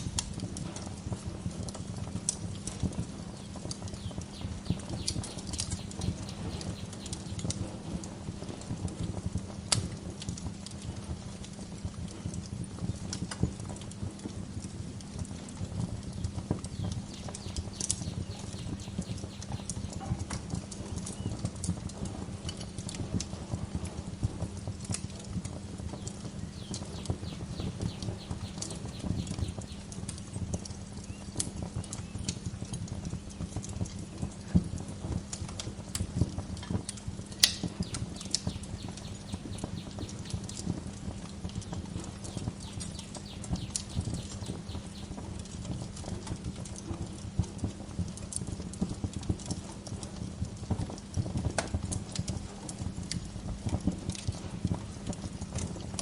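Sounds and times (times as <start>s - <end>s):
sharp fire pops: 0.0s - 56.0s
wood fire crackling: 0.0s - 56.0s.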